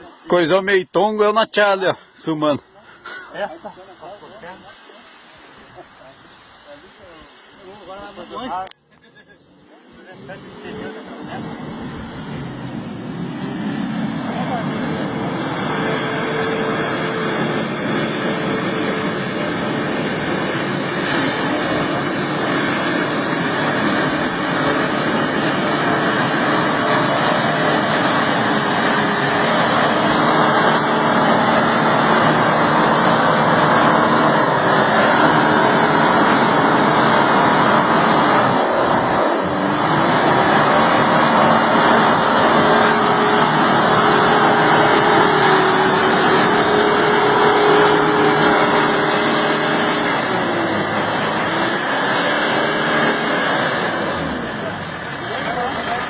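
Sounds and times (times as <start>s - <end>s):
motor running: 0.0s - 56.0s
loud rushing noise: 9.6s - 56.0s.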